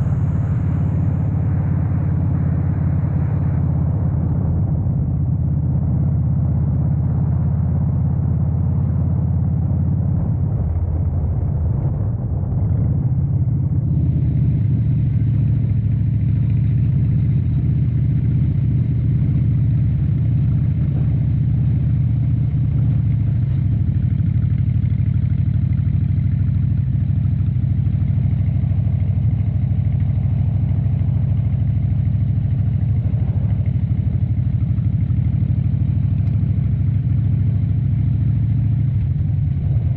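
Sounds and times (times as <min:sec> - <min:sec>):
motorcycle engine running at low revs: 0:00.0 - 0:39.9.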